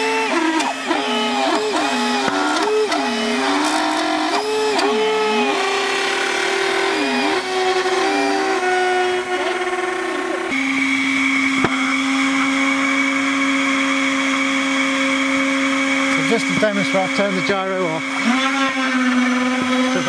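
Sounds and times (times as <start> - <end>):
electric fans whining: 0.0 - 20.0.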